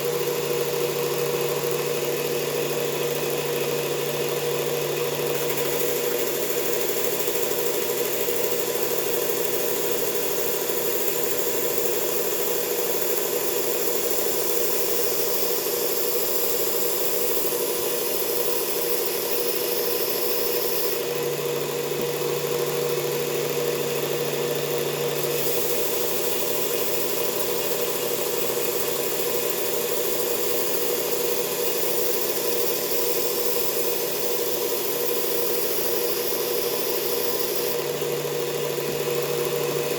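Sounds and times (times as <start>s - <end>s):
belt sander motor hum: 0.0s - 39.9s.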